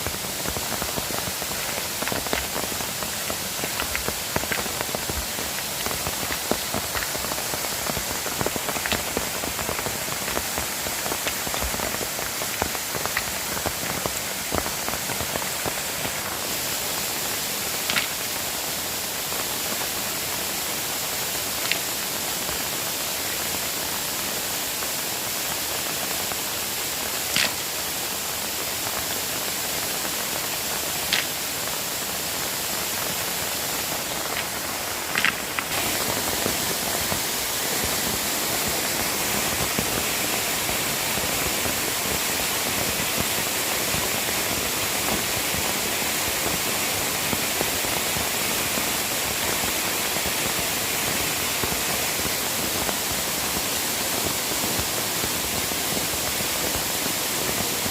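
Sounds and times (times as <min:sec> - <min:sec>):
rushing water: 0:00.0 - 0:57.9.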